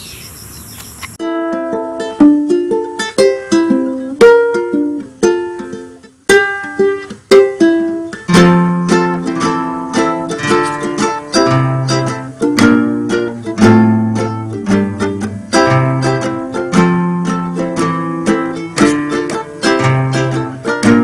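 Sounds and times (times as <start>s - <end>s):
plucked string music: 1.2s - 21.0s.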